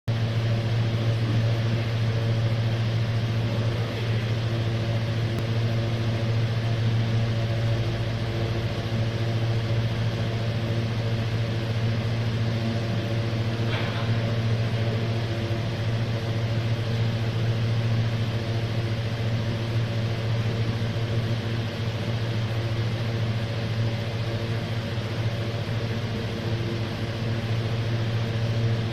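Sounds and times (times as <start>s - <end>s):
fan blades rushing: 0.1s - 28.9s
fan motor hum: 0.1s - 28.9s.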